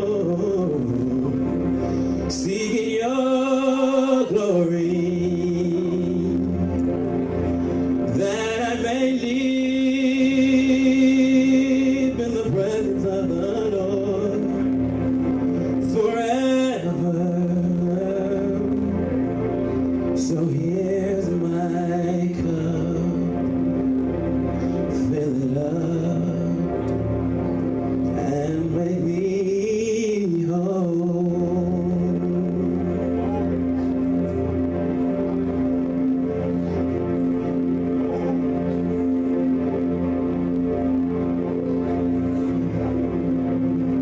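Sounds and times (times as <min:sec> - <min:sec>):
man singing long wavering notes: 0:00.0 - 0:44.0
sustained chords: 0:00.0 - 0:44.0.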